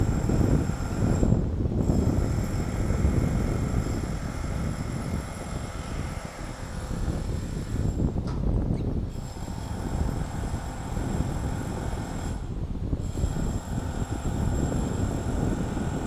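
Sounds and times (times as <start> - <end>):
jackhammer pounding: 0.0 - 8.0, 9.2 - 16.0.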